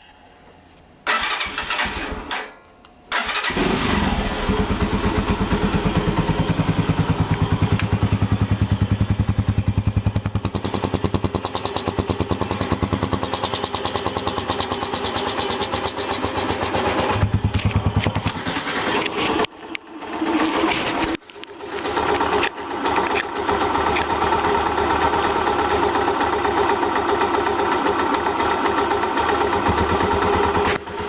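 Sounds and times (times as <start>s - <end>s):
motorcycle engine starting and idling: 1.0s - 31.0s.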